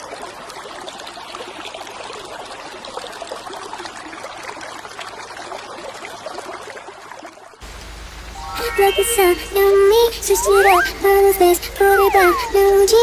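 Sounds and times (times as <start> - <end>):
trickling running water: 0.0 - 8.4, 9.4 - 13.0.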